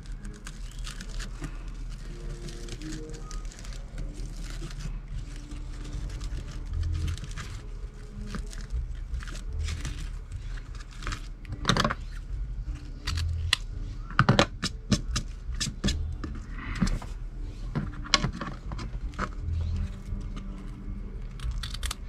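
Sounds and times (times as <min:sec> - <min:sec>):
ribbon crinkling and clicking: 0:00.0 - 0:13.8, 0:17.8 - 0:22.0
low steady hum: 0:00.0 - 0:22.0.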